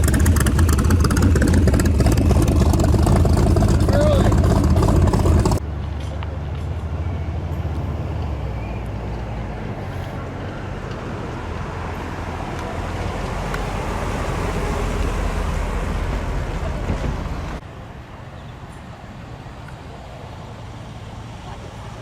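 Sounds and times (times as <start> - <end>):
car engine and exhaust rumbling: 0.0 - 22.0.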